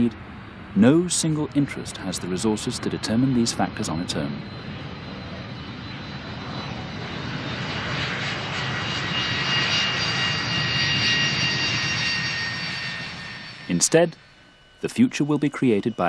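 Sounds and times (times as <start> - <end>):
jet airliner passing: 0.0 - 16.0.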